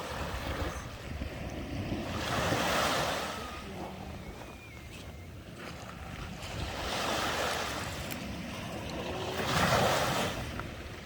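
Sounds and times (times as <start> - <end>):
ocean surf breaking: 0.0 - 4.6, 5.6 - 11.0.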